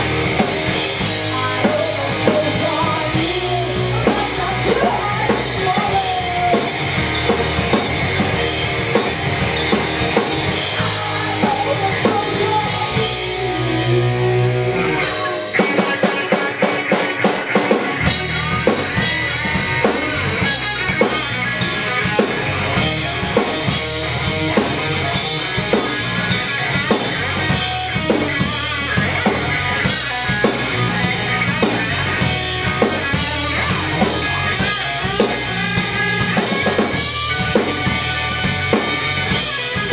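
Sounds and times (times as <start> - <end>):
bass guitar: 0.0 - 39.9
drum kit: 0.0 - 39.9
electric guitar lead with bends: 0.0 - 39.9.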